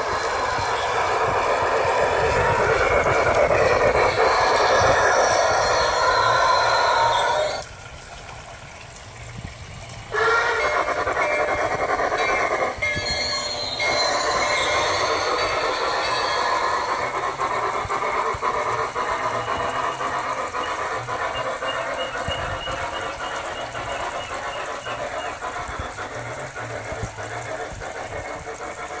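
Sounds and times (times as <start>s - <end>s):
steam locomotive sound effects: 0.0s - 29.0s
wheels clicking on track: 0.0s - 29.0s.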